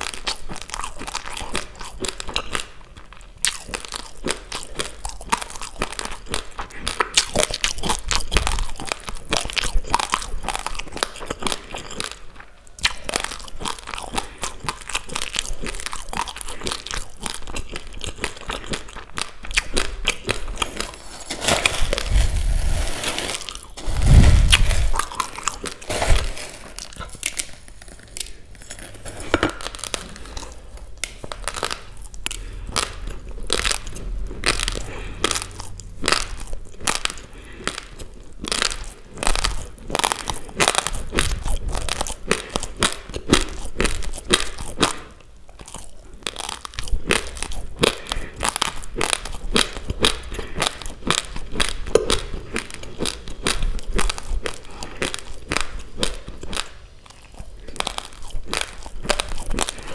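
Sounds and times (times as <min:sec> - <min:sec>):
crunching of rice being chewed: 0:00.0 - 0:59.9.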